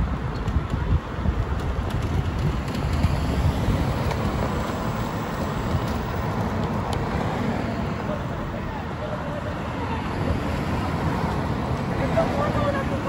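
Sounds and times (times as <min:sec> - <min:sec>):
road traffic noise: 0:00.0 - 0:13.0
wind rumble on microphone: 0:00.0 - 0:13.0.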